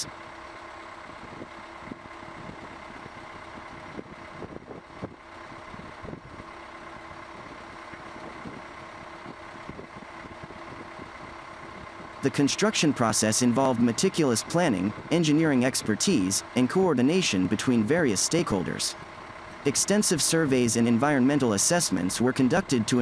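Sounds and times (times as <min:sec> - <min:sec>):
engine hum: 0:00.0 - 0:23.0.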